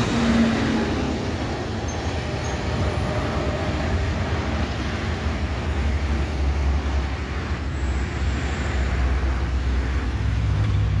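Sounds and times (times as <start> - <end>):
traffic engine rumble: 0.0 - 11.0
tyre and road noise: 0.0 - 11.0.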